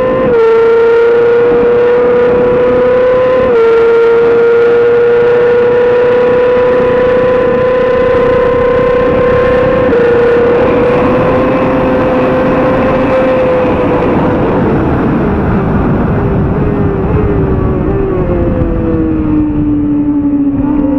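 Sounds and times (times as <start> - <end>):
motorcycle engine screaming: 0.0 - 20.9
wind rush: 0.0 - 20.9.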